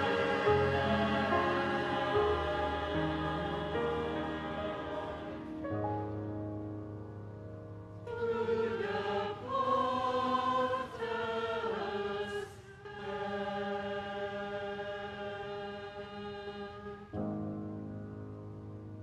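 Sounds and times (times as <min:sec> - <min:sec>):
church choir singing: 0:00.0 - 0:06.2, 0:08.0 - 0:17.2.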